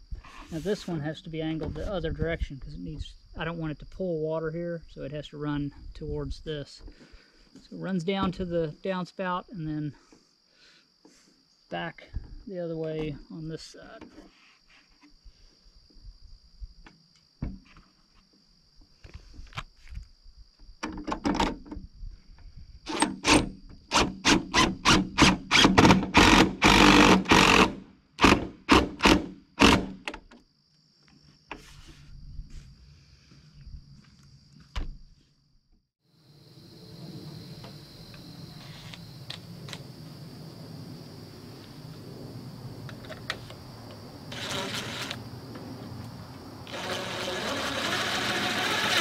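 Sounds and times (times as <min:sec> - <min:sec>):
crickets trilling: 0:00.0 - 0:49.0.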